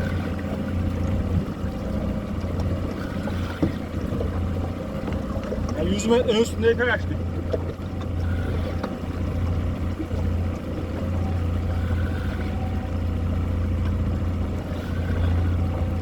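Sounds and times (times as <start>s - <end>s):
motorboat engine running: 0.0s - 16.0s.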